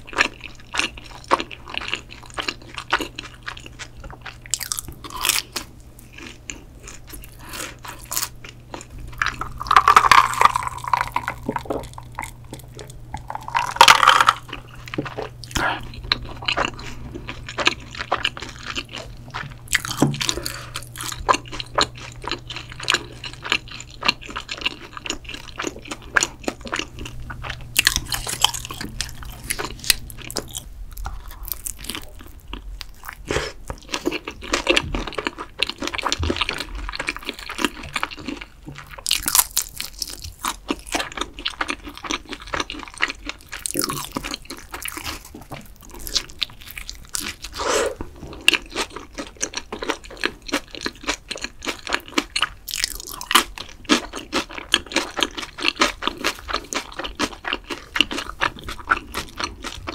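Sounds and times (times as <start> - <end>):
chewing crunchy pizza crust: 0.0 - 59.9
faint low hum: 0.0 - 59.9.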